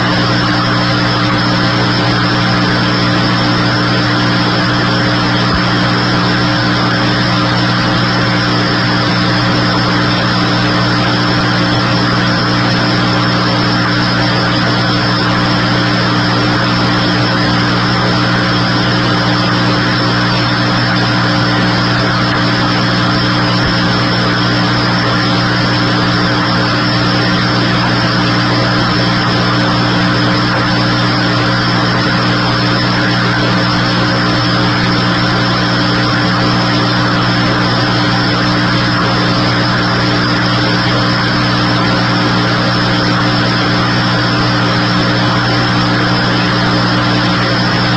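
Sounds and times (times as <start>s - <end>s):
steady mechanical drone: 0.0s - 47.9s.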